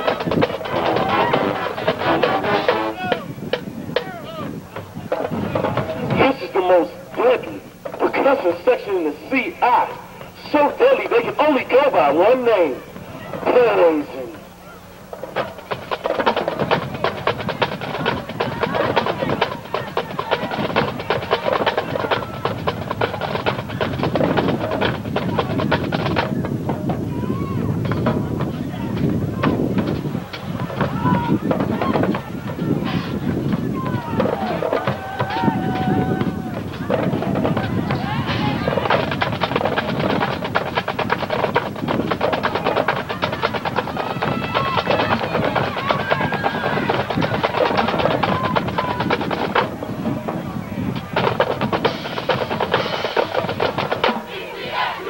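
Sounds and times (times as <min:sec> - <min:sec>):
fast drum strokes: 0:00.0 - 0:08.6, 0:15.0 - 0:54.9
marching band playing: 0:00.0 - 0:55.0.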